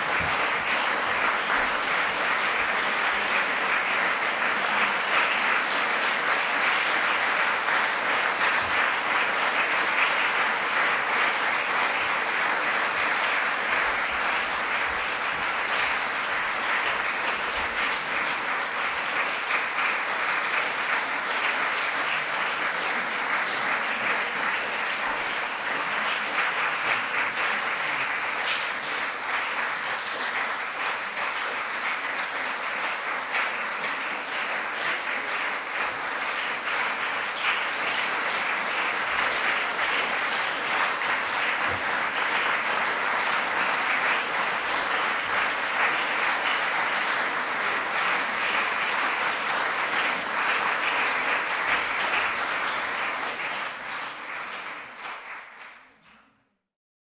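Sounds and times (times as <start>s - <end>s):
audience applauding: 0.0s - 56.5s.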